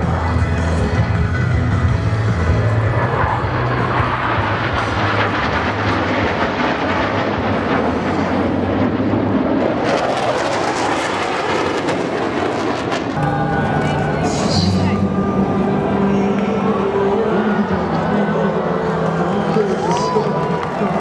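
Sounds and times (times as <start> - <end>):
jet engines roaring past: 0.0 - 21.0.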